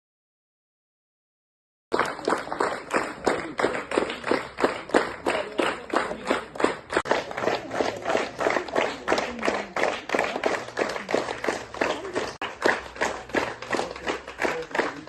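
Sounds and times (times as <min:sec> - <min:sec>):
crowd clapping rhythmically: 0:01.9 - 0:15.0.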